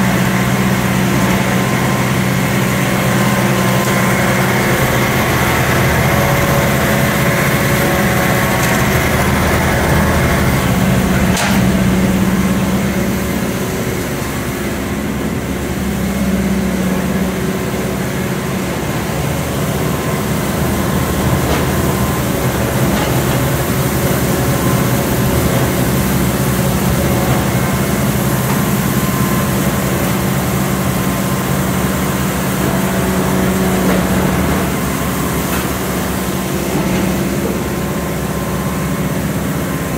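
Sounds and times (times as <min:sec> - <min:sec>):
straw bedder rotor and fan: 0:00.0 - 0:39.9
tractor engine: 0:00.0 - 0:39.9.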